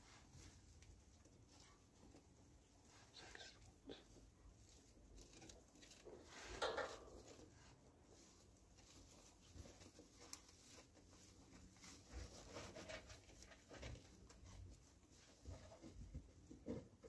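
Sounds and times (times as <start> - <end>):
faint rustles: 0.0 - 17.0.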